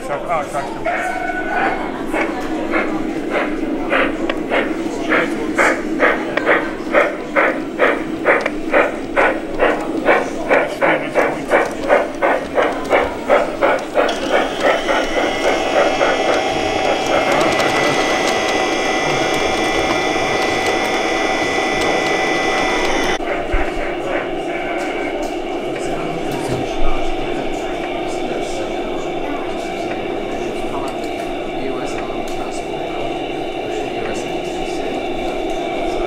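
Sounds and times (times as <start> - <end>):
model steam locomotive chuffing: 0.0 - 36.0
model trains whirring hum: 0.0 - 36.0.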